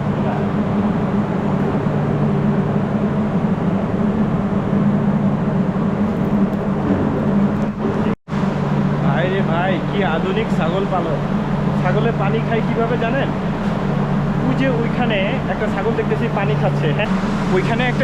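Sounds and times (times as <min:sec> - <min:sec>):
mechanical drone with low hum: 0:00.0 - 0:18.0.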